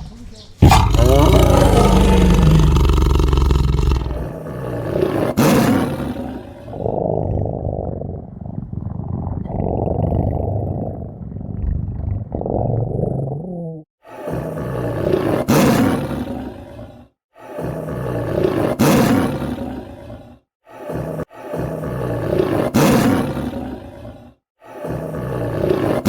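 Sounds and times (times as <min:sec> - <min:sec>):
tiger roaring: 0:00.6 - 0:10.8, 0:14.1 - 0:26.0.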